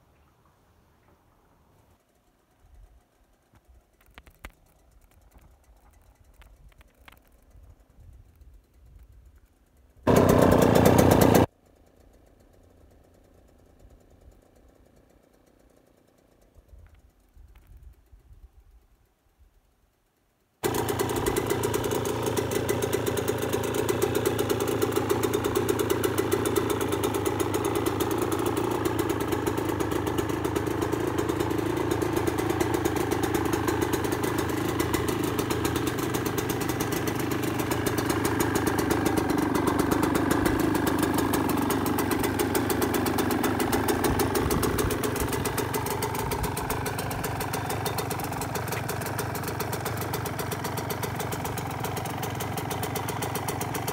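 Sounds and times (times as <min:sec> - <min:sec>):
two-stroke dirt bike engine idling: 0:01.2 - 0:53.9.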